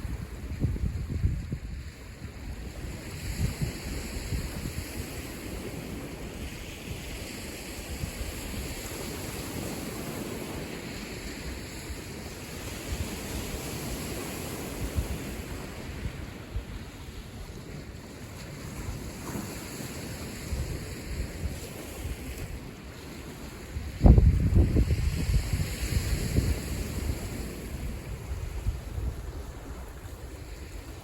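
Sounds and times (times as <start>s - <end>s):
lake waves washing onto shore: 0.0s - 31.0s
wind buffeting microphone: 0.0s - 31.0s.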